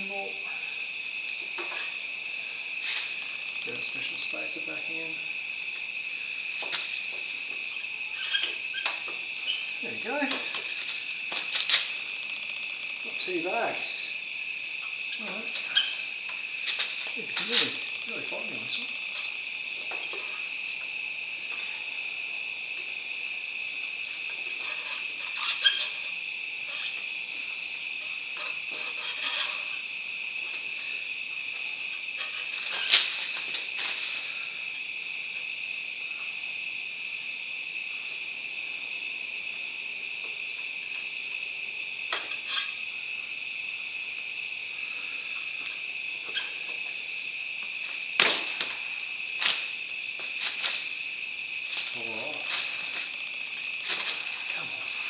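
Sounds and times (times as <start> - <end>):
insect drone: 0.0 - 55.0.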